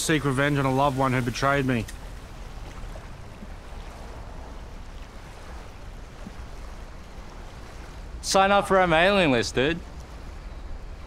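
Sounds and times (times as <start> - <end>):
wind and water rushing hiss: 0.0 - 11.0.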